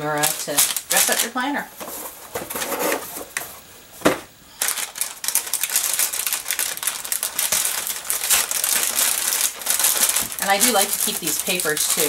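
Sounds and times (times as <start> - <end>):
paper wrapping crinkling: 0.0 - 3.6, 4.5 - 12.0.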